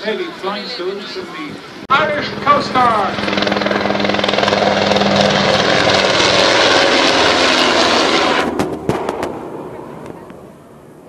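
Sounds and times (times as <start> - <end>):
helicopter flying past: 1.9 - 11.0.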